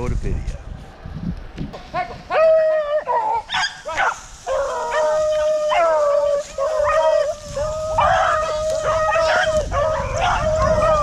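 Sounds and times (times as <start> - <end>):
dogs baying and yelping: 1.9 - 11.0.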